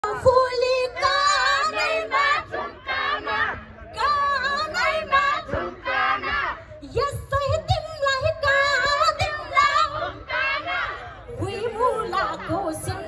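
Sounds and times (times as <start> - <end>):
woman singing over loudspeakers: 0.0 - 3.1, 3.9 - 6.0, 6.8 - 13.0.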